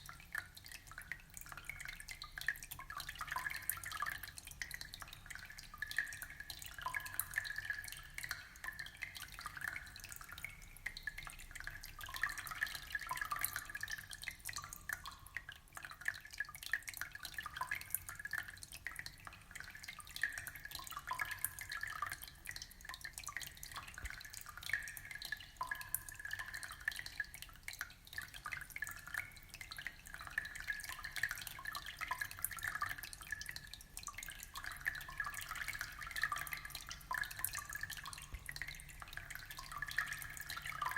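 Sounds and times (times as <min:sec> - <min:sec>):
aquarium water trickling: 0:00.0 - 0:40.9.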